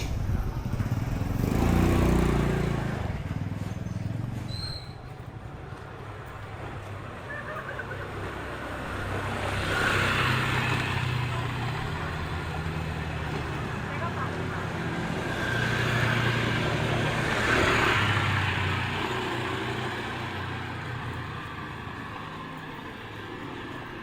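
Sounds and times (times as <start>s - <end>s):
motorcycle engines passing: 0.0s - 24.0s
street ambience: 0.0s - 24.0s.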